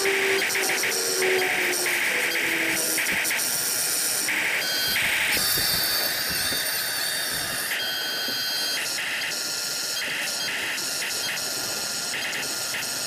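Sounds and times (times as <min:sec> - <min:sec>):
high electric motor whine: 0:00.0 - 0:13.0.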